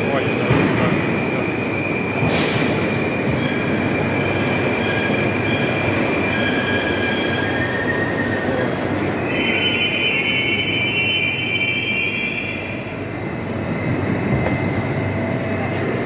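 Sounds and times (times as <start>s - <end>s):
high train whine: 0.0s - 16.0s
train wheels rumbling: 0.0s - 16.0s.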